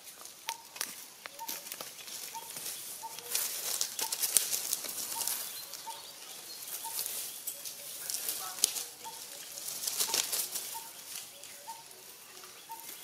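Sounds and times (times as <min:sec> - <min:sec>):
dry leaves crackling and rustling: 0:00.0 - 0:13.0.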